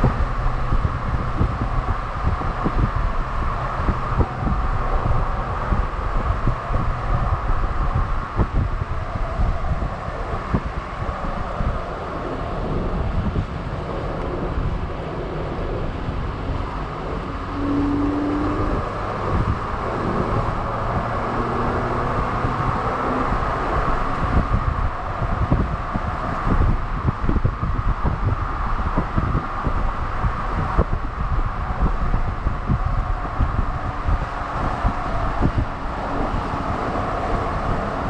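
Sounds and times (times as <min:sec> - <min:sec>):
car road and engine noise: 0:00.0 - 0:38.0
wind buffeting microphone: 0:00.0 - 0:38.0.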